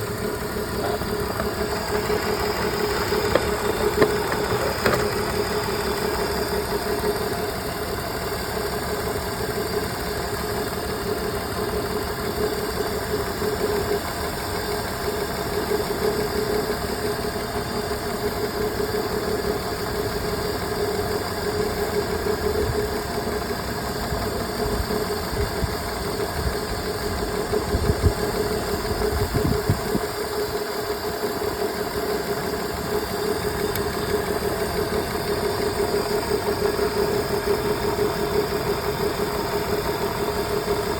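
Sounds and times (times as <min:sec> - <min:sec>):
car engine idling with misfire: 0:00.0 - 0:40.9.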